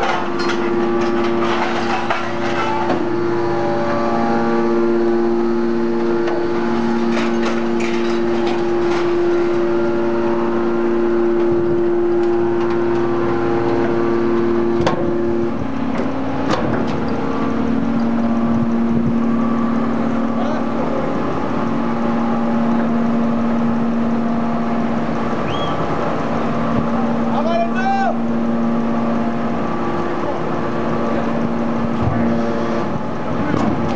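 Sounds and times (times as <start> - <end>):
hydraulic baler drone and whine: 0.0 - 33.9.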